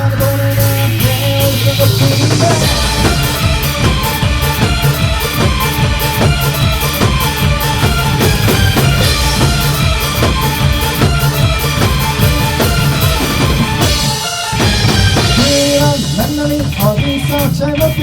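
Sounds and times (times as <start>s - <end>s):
rising hiss: 0.0s - 16.8s
live electronic rock band: 0.0s - 18.0s.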